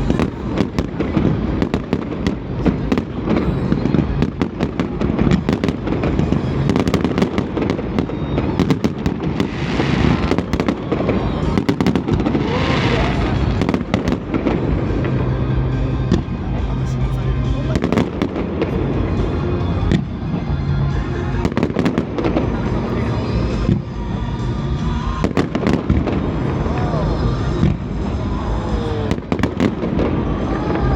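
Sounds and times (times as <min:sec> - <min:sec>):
fireworks booming: 0:00.0 - 0:30.9
fireworks crackling: 0:00.0 - 0:30.9.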